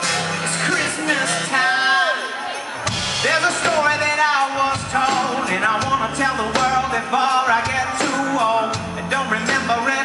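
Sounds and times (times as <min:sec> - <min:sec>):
live rock band playing: 0:00.0 - 0:10.0.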